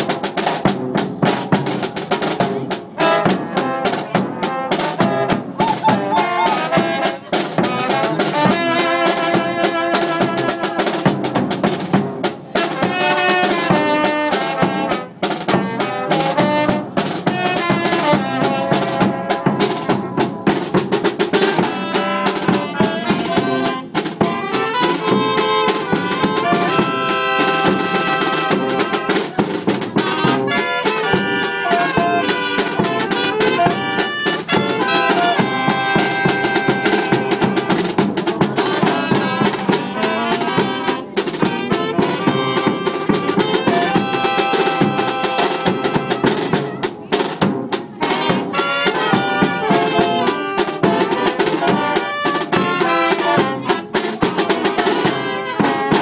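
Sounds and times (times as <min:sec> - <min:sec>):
snare and bass drum beat: 0:00.0 - 0:56.0
trumpets and saxophones: 0:00.0 - 0:56.0
tuba: 0:00.0 - 0:56.0.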